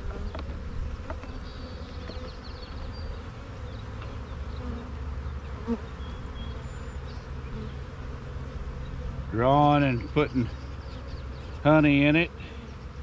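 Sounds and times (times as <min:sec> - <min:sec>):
honeybees humming: 0:00.0 - 0:13.0.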